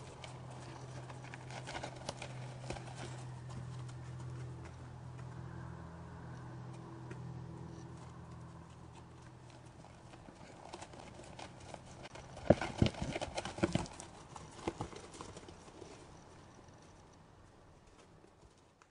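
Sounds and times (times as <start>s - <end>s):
deer hooves on frozen snow: 0.0s - 18.9s.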